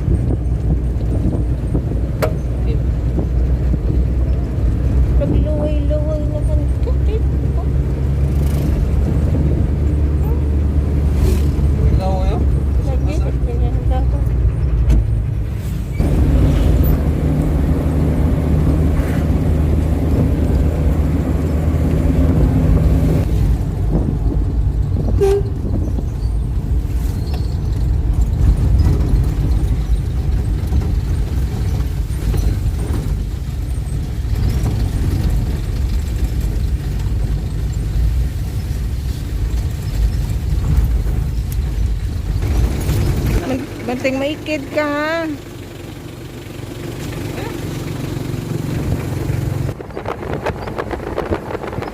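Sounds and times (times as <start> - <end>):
vehicle engine and road rumble: 0.0 - 51.9.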